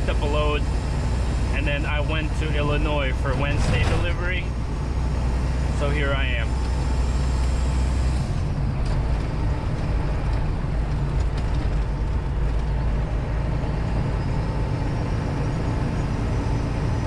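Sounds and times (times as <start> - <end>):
road noise: 0.0 - 17.0
truck diesel engine droning: 0.0 - 17.0.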